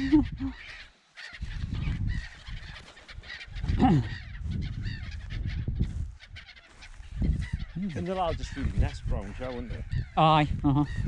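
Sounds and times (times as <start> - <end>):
wind rumbling on microphone: 0.0 - 0.8, 1.4 - 11.0
gulls calling in alarm: 0.0 - 11.0.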